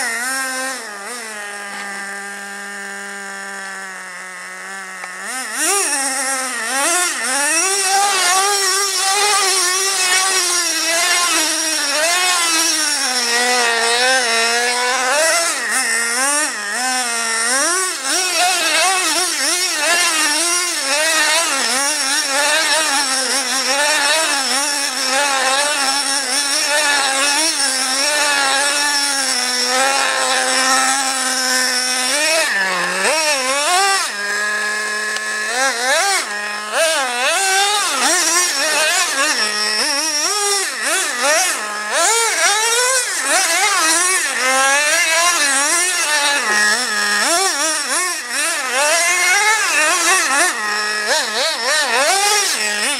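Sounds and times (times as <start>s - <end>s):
rc truck engine buzzing: 0.0s - 52.9s.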